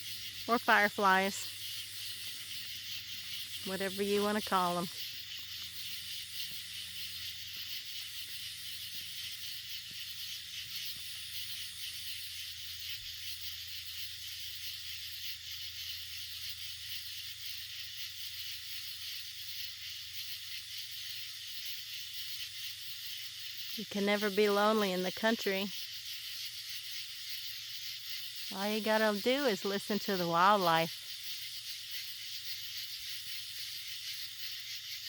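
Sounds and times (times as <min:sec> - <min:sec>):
night insects chirping: 0:00.0 - 0:35.0.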